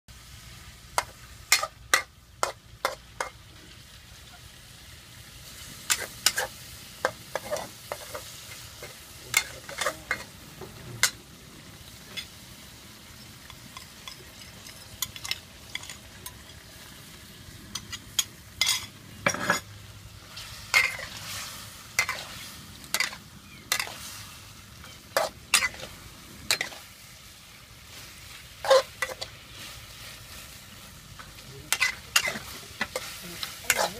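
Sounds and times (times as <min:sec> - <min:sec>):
food sizzling: 0:00.1 - 0:33.9
spatula scraping wok: 0:00.4 - 0:03.9, 0:05.3 - 0:33.9.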